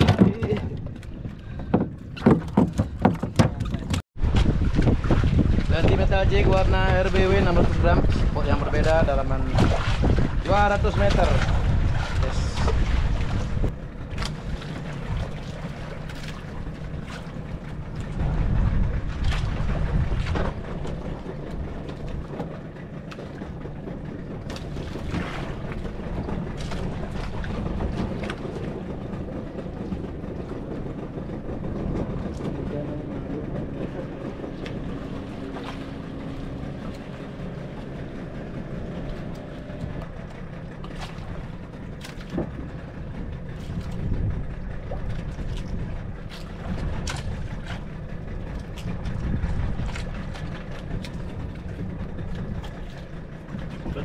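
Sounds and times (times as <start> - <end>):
boat engine rumble: 0.0 - 54.0
water noise: 0.0 - 54.0
wind: 0.0 - 54.0.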